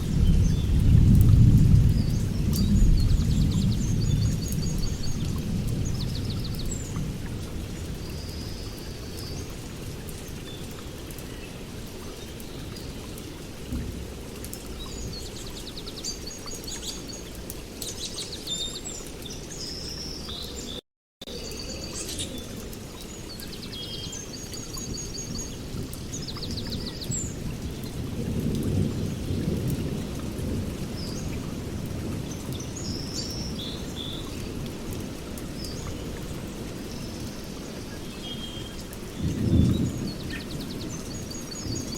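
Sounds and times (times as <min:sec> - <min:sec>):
small birds chirping: 0:01.9 - 0:13.8, 0:14.4 - 0:30.0, 0:32.3 - 0:41.9.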